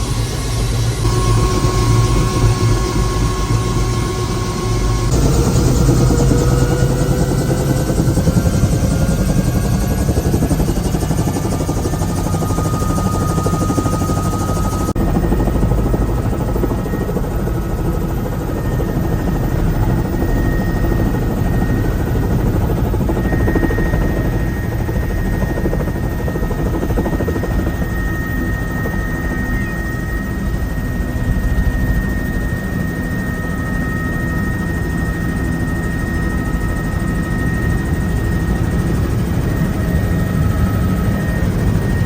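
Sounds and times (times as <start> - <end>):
helicopter engine and rotor: 0.0 - 42.0.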